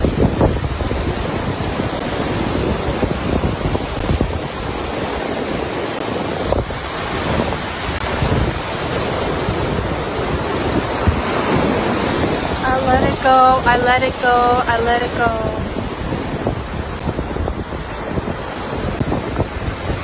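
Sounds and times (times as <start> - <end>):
ocean surf washing on shore: 0.0 - 20.0
wind buffeting microphone: 0.0 - 20.0.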